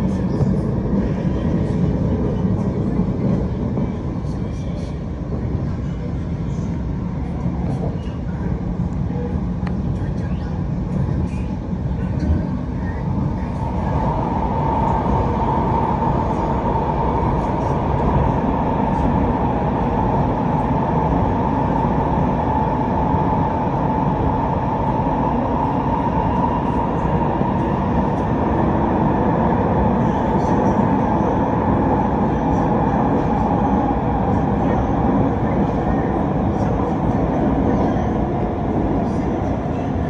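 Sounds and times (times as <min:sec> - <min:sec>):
train rumbling on rails: 0:00.0 - 0:40.0.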